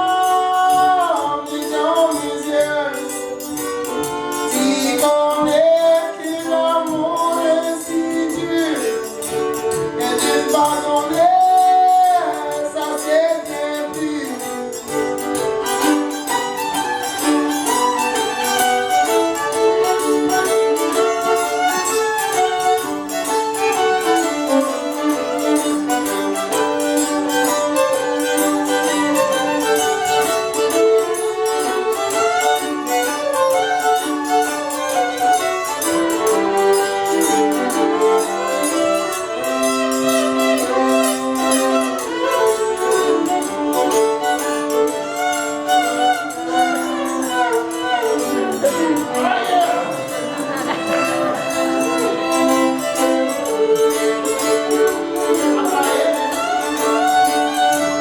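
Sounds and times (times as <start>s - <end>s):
fiddle: 0.0s - 58.0s
string band playing: 0.0s - 58.0s.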